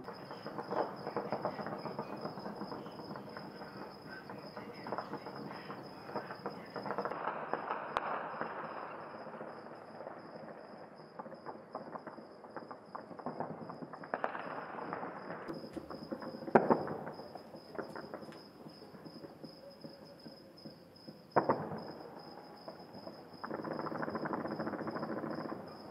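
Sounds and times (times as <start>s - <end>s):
crickets chirring: 0.0s - 25.9s
distant fireworks crackling and popping: 0.0s - 25.9s.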